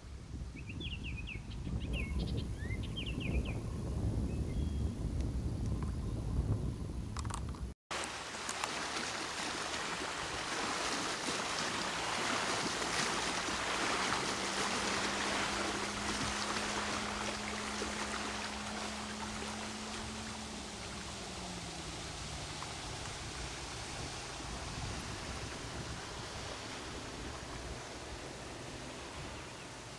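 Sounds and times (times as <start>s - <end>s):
water at a lakeshore: 0.0s - 29.9s
wind: 0.0s - 29.9s.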